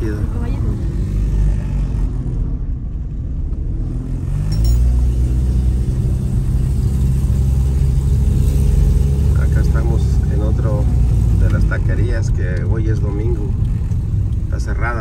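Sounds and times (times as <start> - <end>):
car engine: 0.0 - 15.0
road rumble inside car: 0.0 - 15.0.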